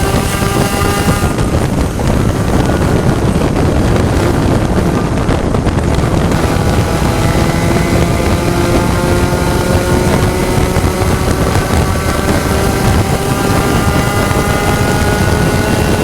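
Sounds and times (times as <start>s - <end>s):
race car engine running hard: 0.0s - 16.0s
wind noise: 0.0s - 16.0s.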